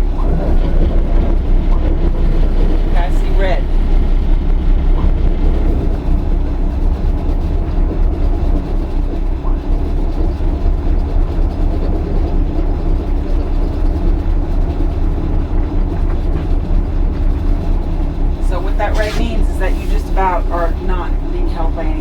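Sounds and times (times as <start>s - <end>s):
boat diesel engines idling: 0.0s - 22.0s.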